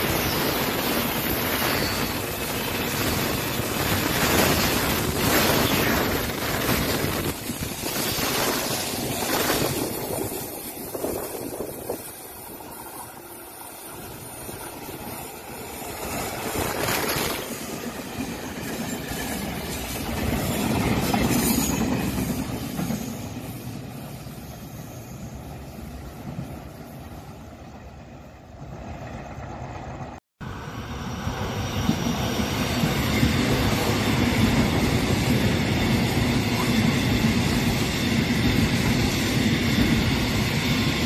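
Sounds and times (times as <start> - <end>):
electric train running: 0.0 - 27.3, 28.8 - 41.0.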